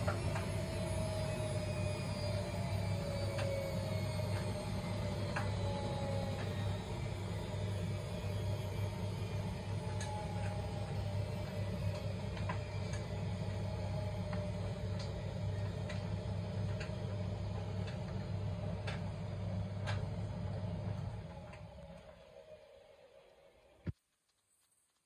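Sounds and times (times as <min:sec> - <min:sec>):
washing machine drum humming: 0:00.0 - 0:22.3
motor whine: 0:00.0 - 0:23.9.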